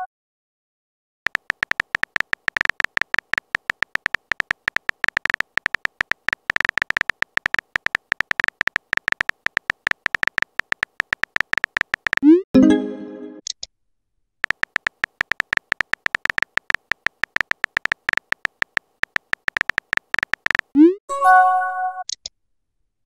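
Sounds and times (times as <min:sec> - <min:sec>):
keyboard typing beeps: 0:01.3 - 0:13.4, 0:14.4 - 0:21.4.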